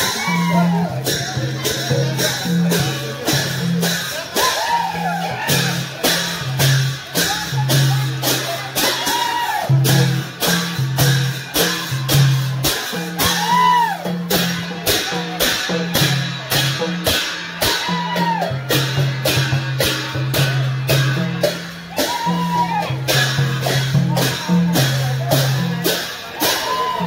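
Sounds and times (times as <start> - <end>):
loud festival music: 0.0 - 27.0.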